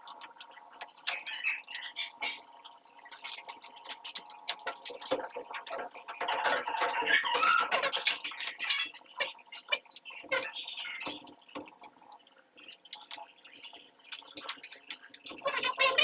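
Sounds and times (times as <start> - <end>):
water dripping and spattering: 0.0 - 16.0.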